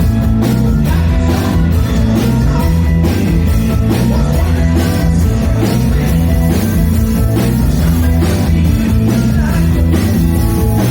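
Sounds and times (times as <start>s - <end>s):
rock band playing live: 0.0s - 10.9s.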